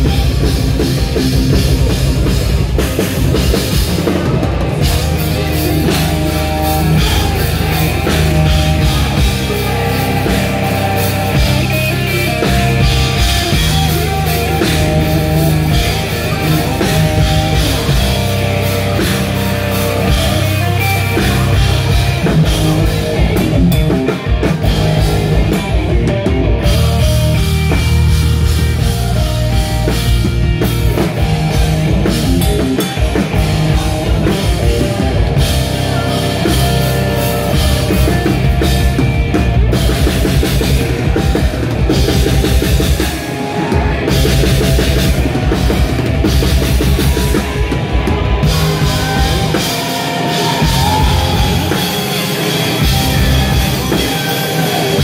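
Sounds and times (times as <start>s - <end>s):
pounding drum kit: 0.0s - 55.0s
rock band playing live: 0.0s - 55.0s.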